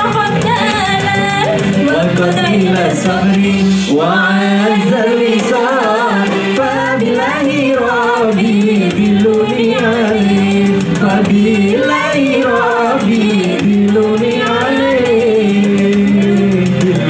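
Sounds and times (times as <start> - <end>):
amplified backing music: 0.0 - 17.0
woman and man singing duet: 0.0 - 17.0.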